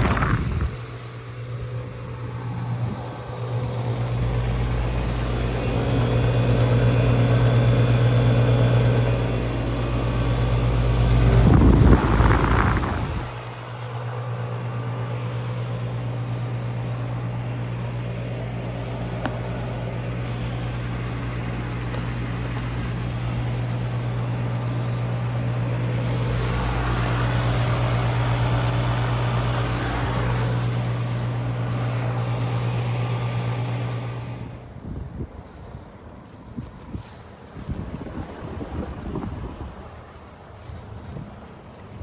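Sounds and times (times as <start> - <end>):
compressor hum: 0.0 - 37.2
fan rushing: 0.0 - 42.0.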